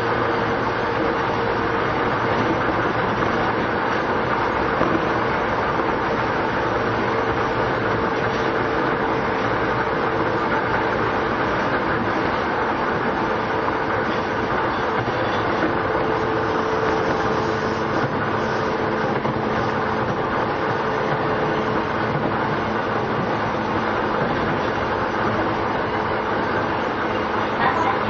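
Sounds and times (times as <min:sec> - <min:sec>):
train wheel and rail noise: 0:00.0 - 0:28.0.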